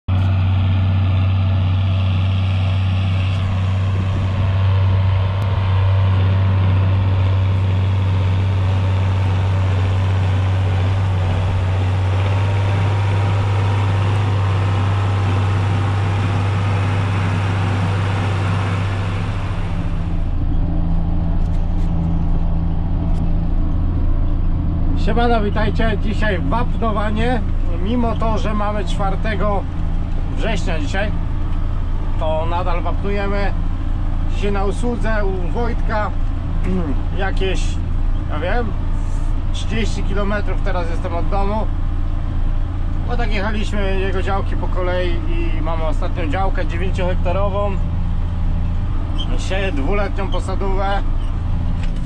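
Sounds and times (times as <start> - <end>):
higher engine tone: 0.0 - 52.0
tractor engine droning: 0.0 - 52.0.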